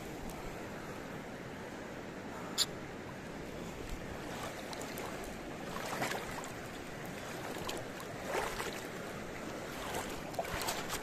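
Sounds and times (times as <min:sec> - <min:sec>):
river water lapping at bank: 0:00.0 - 0:11.0
water rushes: 0:00.0 - 0:11.0.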